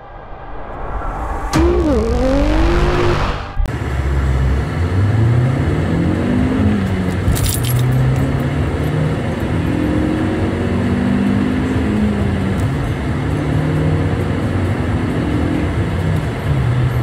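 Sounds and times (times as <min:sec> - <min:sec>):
car engine accelerating: 0:00.4 - 0:17.0.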